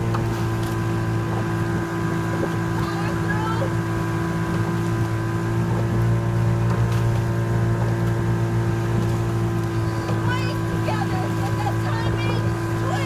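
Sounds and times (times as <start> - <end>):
outboard motor humming: 0.0 - 13.0.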